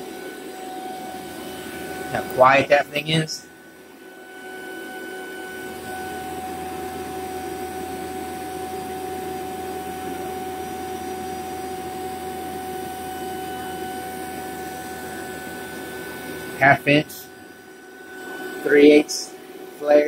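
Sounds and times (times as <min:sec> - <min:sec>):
vacuum pump motor hum: 0:00.0 - 0:20.0.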